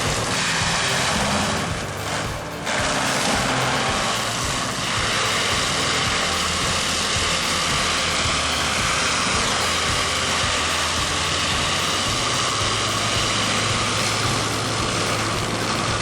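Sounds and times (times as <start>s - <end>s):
heavy machinery running: 0.0s - 16.0s
low hum: 0.0s - 16.0s.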